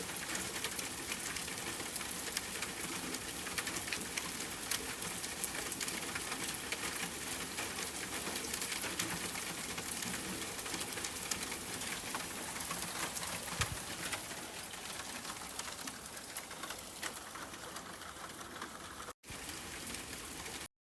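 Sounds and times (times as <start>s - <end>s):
rain falling: 0.0s - 20.7s
raindrops striking close by: 0.0s - 20.7s.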